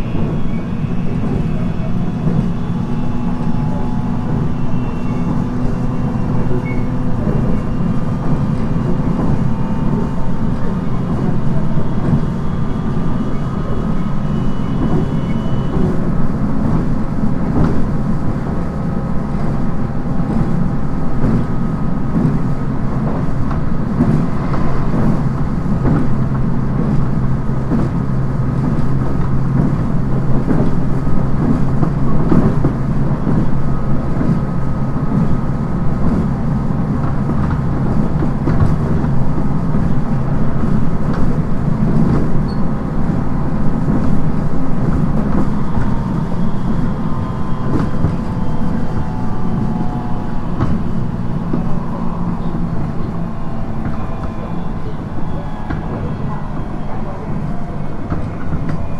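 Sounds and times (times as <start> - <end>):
electric train running rumble: 0.0 - 58.9
train whine: 0.0 - 58.9.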